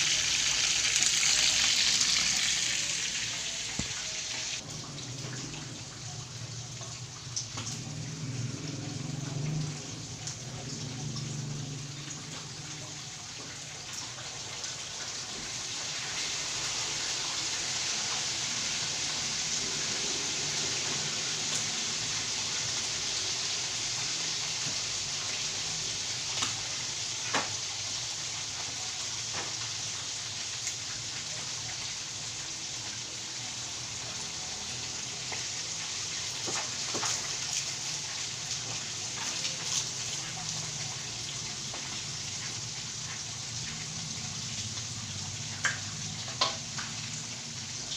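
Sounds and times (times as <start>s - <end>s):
oil popping and crackling: 0.0s - 16.6s, 21.4s - 31.9s, 34.6s - 47.9s
chicken deep-frying in oil: 0.0s - 47.9s.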